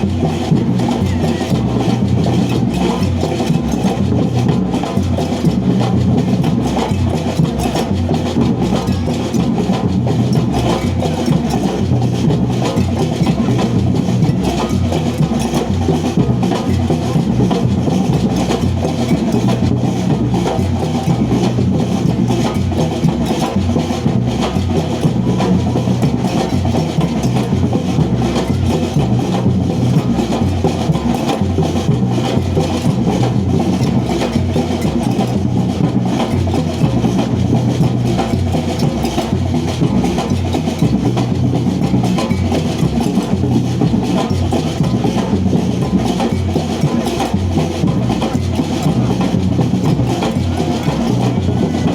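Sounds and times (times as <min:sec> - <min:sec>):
street drummers playing: 0:00.0 - 0:51.9.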